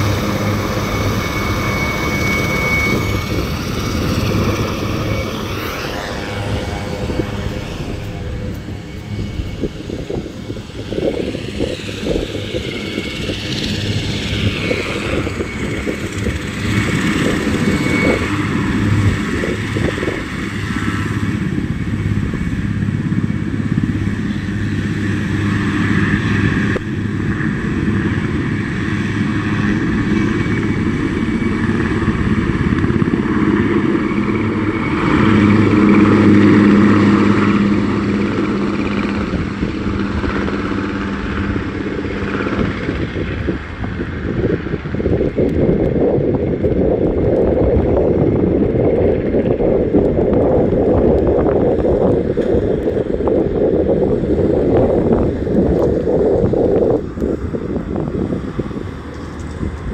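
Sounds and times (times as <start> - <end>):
helicopter rotors chopping: 0.0 - 59.9
helicopter turbine whine: 0.0 - 59.9.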